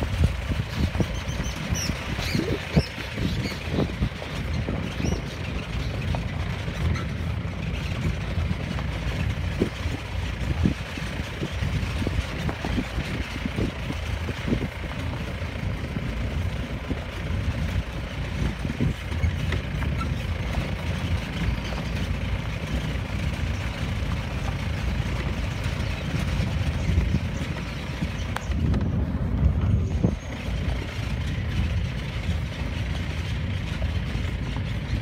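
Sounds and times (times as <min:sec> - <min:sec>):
vehicle engine and road rumble: 0:00.0 - 0:35.0.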